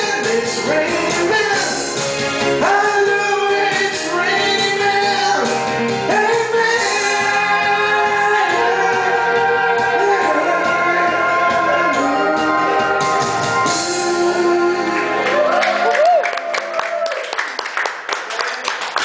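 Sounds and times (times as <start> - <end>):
person singing: 0.0 - 15.9
karaoke backing music: 0.0 - 16.2.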